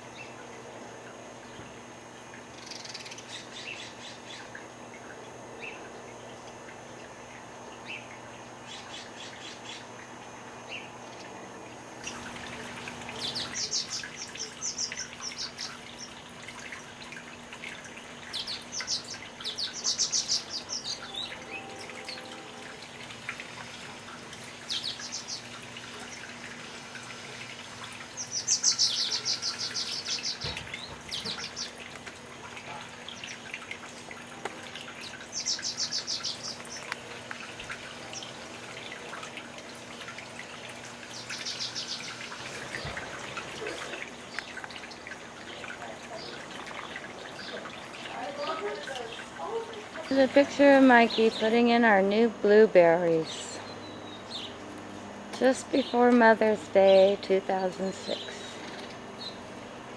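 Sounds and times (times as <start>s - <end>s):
songbirds twittering: 0.0s - 59.8s.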